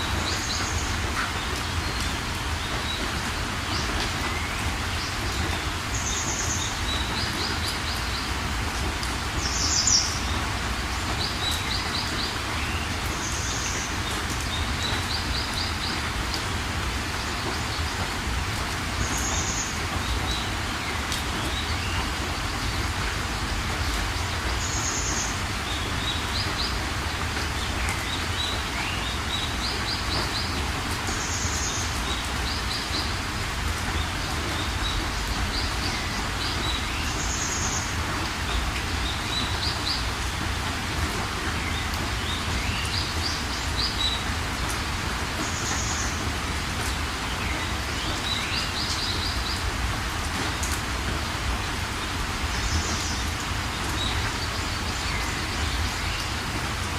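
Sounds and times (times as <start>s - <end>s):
rain hiss: 0.0s - 56.9s.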